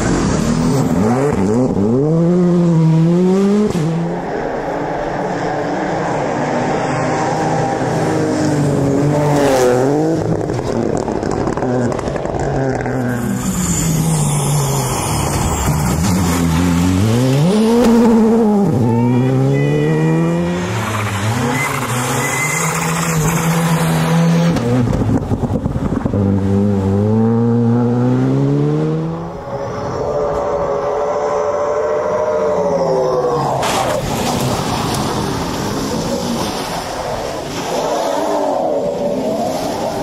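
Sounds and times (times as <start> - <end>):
rally car engines revving hard: 0.0 - 40.0.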